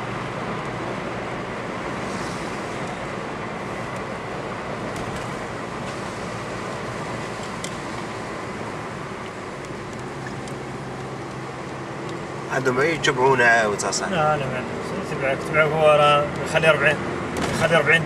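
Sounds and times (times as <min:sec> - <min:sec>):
car road noise on wet road: 0:00.0 - 0:18.0.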